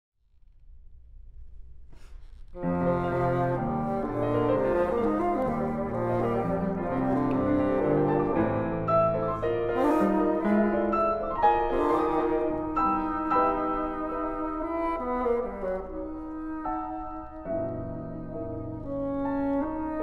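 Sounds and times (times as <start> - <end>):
bassoon playing held notes: 2.6 - 20.0
piano chords: 2.6 - 20.0.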